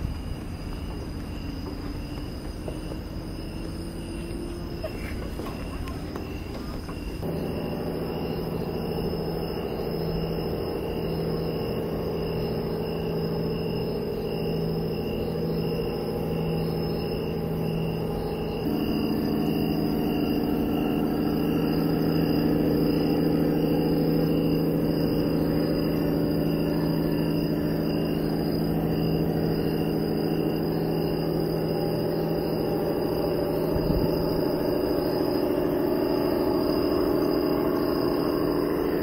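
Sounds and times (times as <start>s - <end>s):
motor hum: 0.0s - 39.0s
thin high whine: 0.0s - 39.0s.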